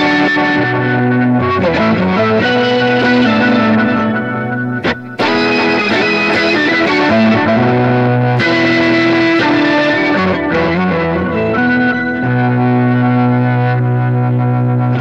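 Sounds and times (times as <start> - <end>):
guitar through effects: 0.0 - 15.0.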